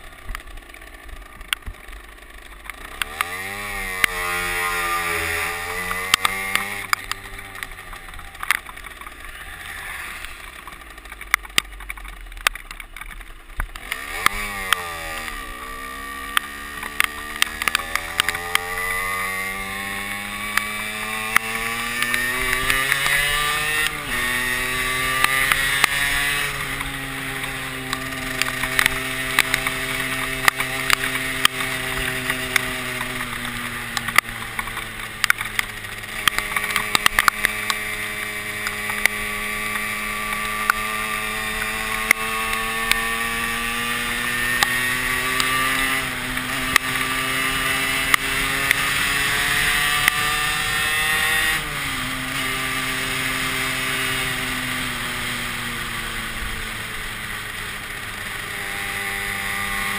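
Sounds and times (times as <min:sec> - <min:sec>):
motorcycle engine running: 0:00.0 - 0:59.9
sharp ticks: 0:00.2 - 0:09.4, 0:10.2 - 0:59.9.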